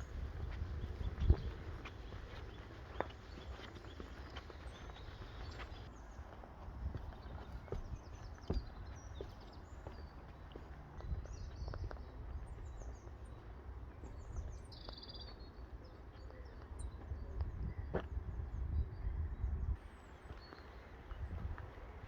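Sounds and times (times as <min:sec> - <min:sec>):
small birds chirping and singing: 0:00.0 - 0:22.0.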